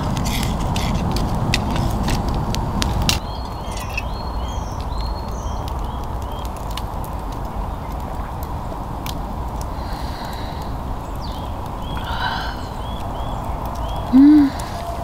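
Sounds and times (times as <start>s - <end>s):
campfire crackling and popping: 0.0s - 15.0s
small birds chirping: 1.9s - 15.0s.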